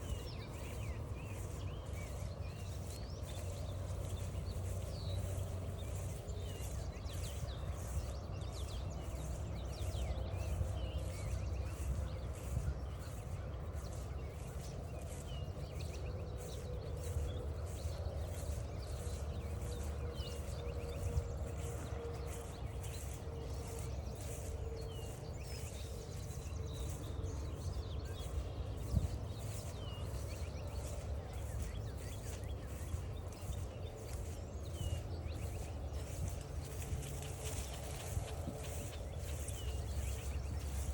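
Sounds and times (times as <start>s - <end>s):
birds chirping: 0.0s - 40.9s
footsteps on a trail: 0.0s - 40.9s.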